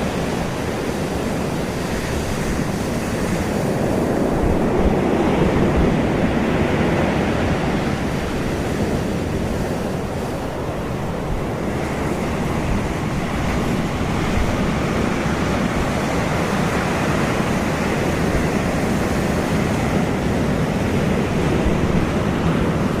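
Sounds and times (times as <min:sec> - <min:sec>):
ocean surf rushing: 0:00.0 - 0:23.0
wind buffeting microphone: 0:00.0 - 0:23.0.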